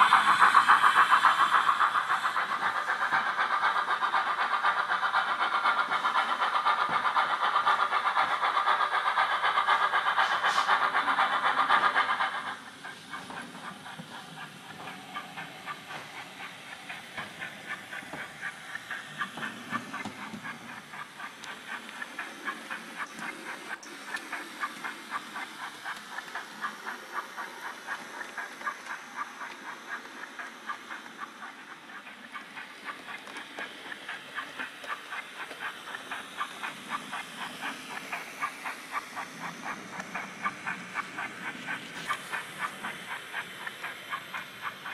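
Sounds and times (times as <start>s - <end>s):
model steam engine chuffs: 0.0s - 44.9s.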